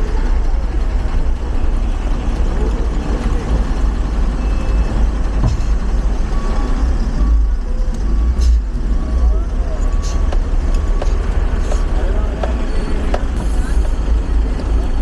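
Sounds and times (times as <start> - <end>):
vehicle engines idling and moving: 0.0 - 15.0.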